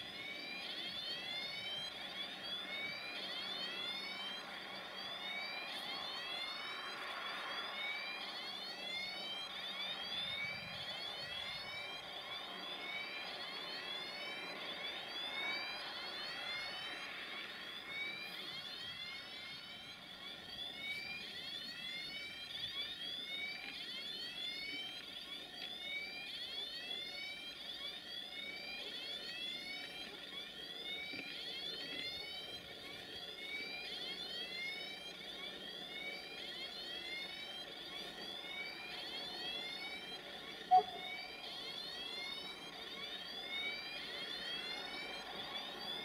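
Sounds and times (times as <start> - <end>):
electronic warning alarm chirping: 0.0 - 46.0.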